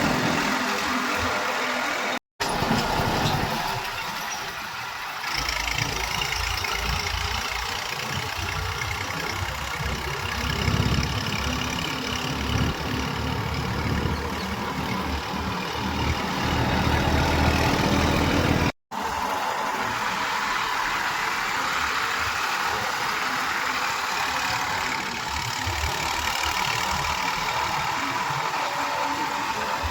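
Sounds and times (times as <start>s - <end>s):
heavy diesel engine rumbling: 0.0s - 29.9s.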